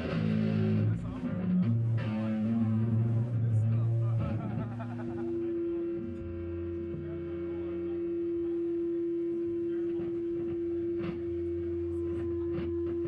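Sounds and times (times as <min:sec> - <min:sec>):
low amplifier hum: 0:00.0 - 0:13.0.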